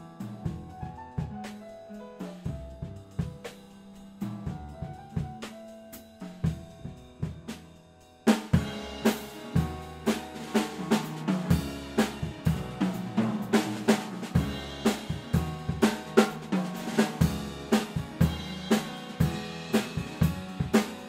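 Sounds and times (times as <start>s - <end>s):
double bass: 0.0s - 21.0s
drum kit beat: 0.0s - 21.0s.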